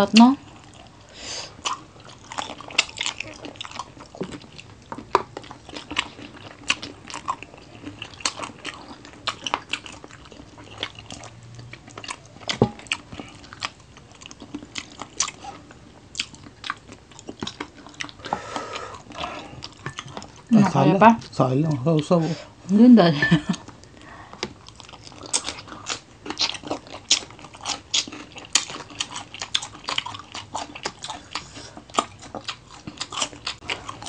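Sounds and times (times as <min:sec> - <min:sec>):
people chewing crunchy food: 0:00.0 - 0:34.0.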